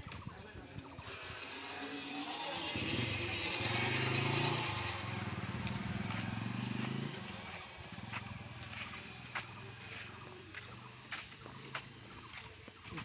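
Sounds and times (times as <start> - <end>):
vehicle engine passing by: 0.6 - 13.0.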